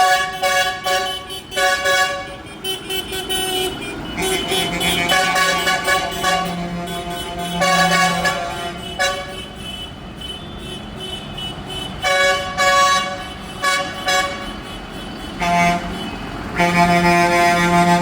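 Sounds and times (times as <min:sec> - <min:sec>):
tractor horns tooting: 0:00.0 - 0:18.0.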